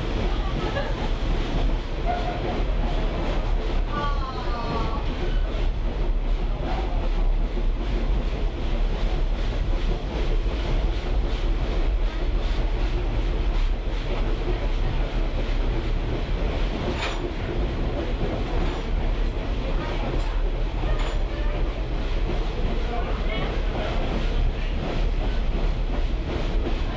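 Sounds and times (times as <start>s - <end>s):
train car rumbling on track: 0.0s - 26.9s.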